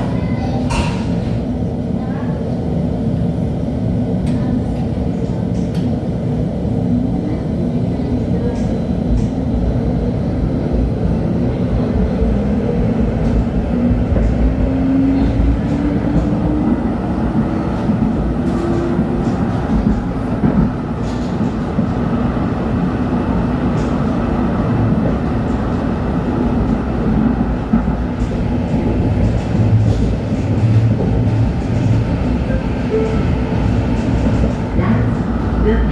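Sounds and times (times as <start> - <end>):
wheels rumbling on track: 2.7 - 35.9.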